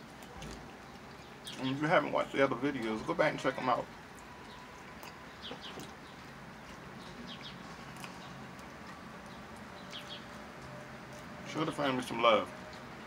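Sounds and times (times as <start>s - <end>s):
outdoor background hiss: 0.0s - 13.0s
faint birds chirping: 0.1s - 13.0s.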